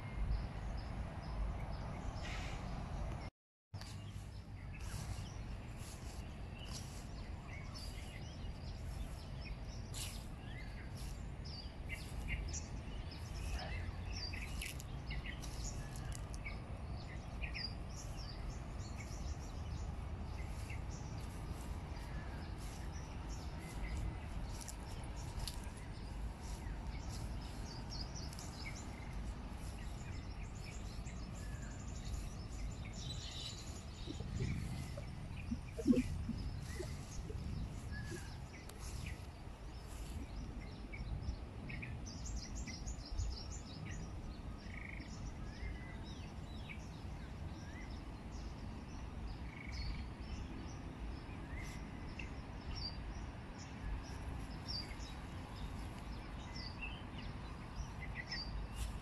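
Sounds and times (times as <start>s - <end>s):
birds chirping: 0.0s - 59.0s
low outdoor rumble: 0.0s - 59.0s.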